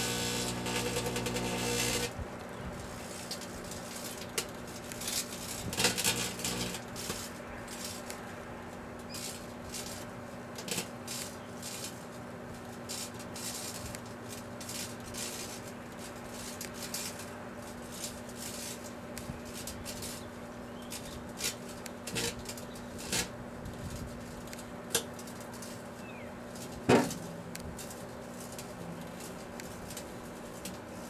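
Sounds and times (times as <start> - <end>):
rustle: 0.0 - 31.0
small crackles and ticks: 0.0 - 31.0
steady low hum: 0.0 - 31.0.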